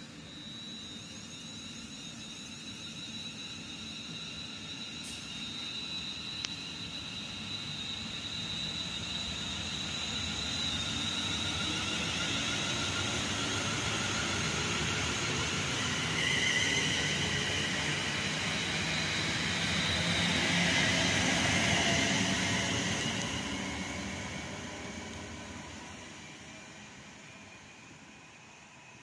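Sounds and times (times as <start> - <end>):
high electric train whine: 0.0 - 29.0.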